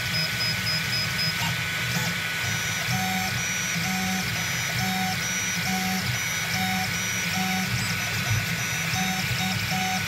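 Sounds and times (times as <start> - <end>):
cooling fan humming: 0.0 - 10.0.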